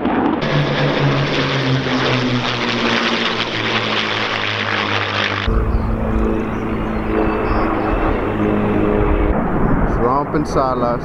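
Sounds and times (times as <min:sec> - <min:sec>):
deep aircraft rumble: 0:00.0 - 0:11.0
propeller planes flying past: 0:00.0 - 0:11.0.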